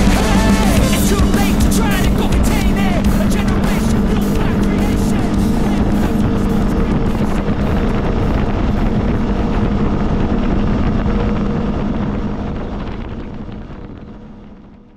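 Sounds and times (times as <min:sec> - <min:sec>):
atv engine running: 0:00.0 - 0:14.9
wind rushing over microphone: 0:00.0 - 0:14.9.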